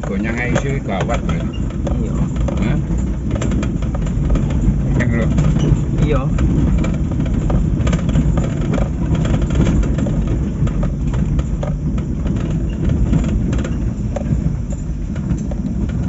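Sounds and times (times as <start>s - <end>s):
small rattles and knocks: 0.0s - 16.0s
vehicle engine and road noise: 0.0s - 16.0s.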